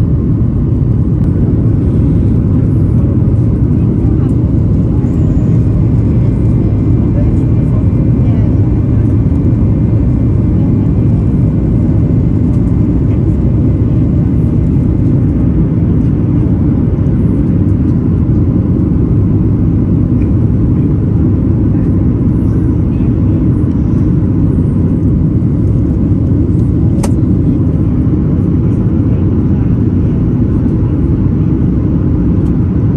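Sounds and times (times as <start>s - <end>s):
airplane cabin engine rumble: 0.0s - 32.9s.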